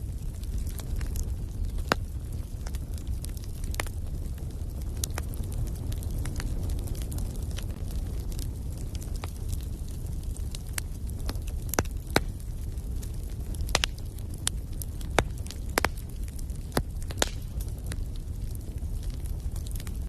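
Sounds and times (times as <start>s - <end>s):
fire burning with low rumble: 0.0s - 20.0s
fire crackling and popping: 0.0s - 20.0s.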